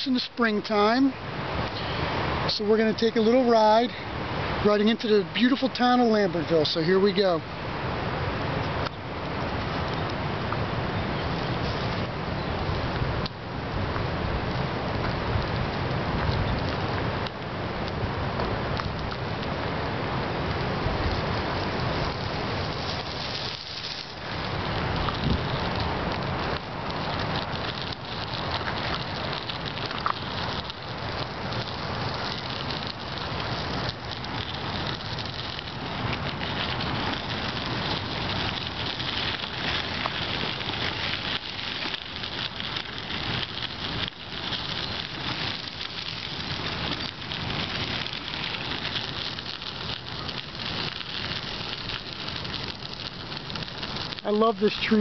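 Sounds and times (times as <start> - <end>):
bicycle tyres on gravel: 0.0 - 55.0.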